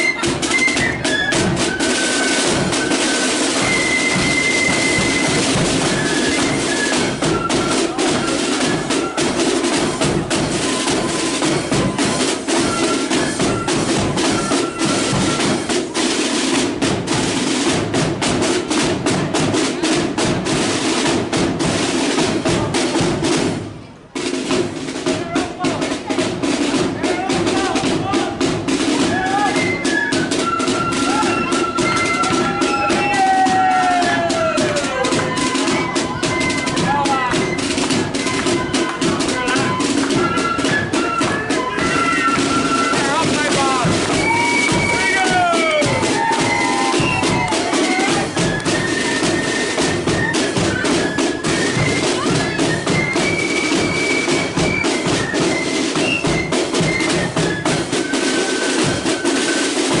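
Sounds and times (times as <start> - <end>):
flutes playing: 0.0 - 21.5, 26.5 - 60.0
rapid snare drum strokes: 0.0 - 60.0.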